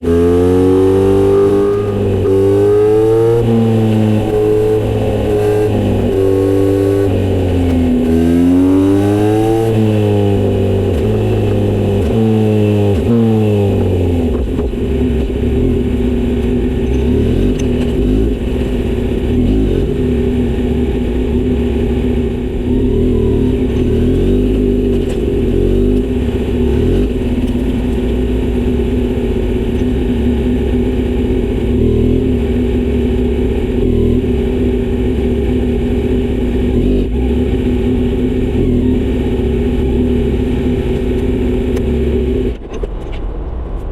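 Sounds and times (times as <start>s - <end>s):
motorcycle engine revving: 0.0s - 42.7s.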